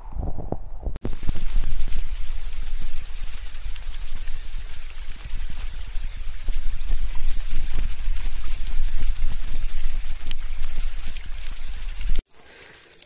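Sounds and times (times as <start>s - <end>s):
low rumbling on microphone: 0.0s - 12.2s
high-pitched insect band: 1.0s - 12.2s
heavy rain in forest: 1.0s - 13.0s.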